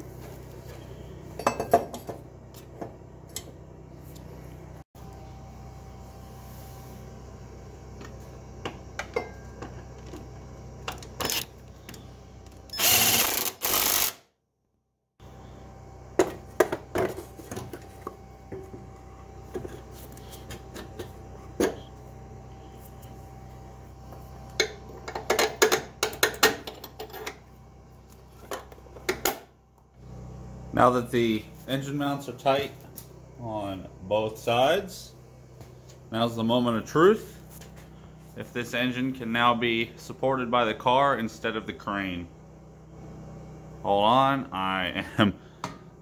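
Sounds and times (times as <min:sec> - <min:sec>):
steady low hum: 0:00.0 - 0:14.1, 0:15.2 - 0:46.0.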